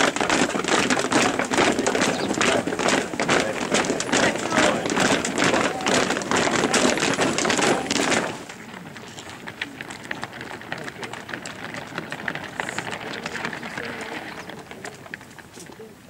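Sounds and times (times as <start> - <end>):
faint scattered footfalls: 0.0 - 16.0
feet marching on tarmac: 0.0 - 16.0.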